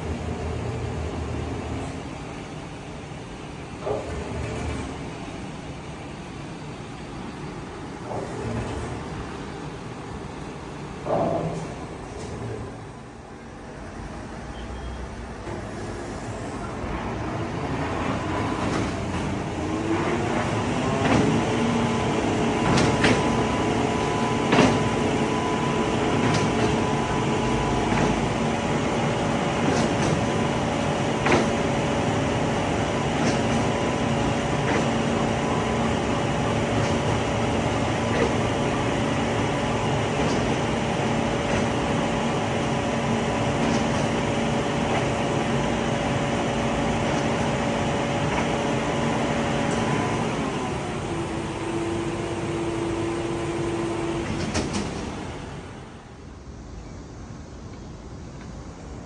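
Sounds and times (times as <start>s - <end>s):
ladder lift mechanical hum: 0.0s - 59.0s.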